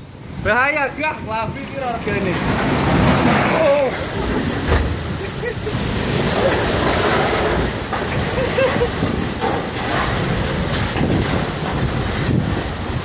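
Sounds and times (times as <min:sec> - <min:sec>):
wind and rain rushing: 0:00.0 - 0:13.0.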